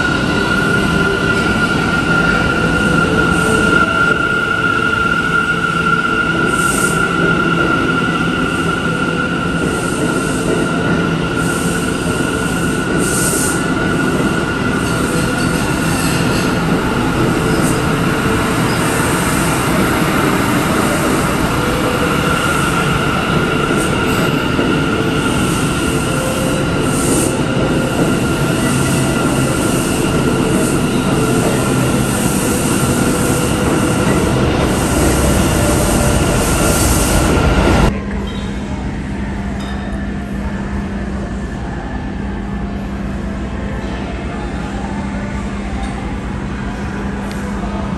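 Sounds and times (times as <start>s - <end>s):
subway train wheels rumbling: 0.0s - 47.9s.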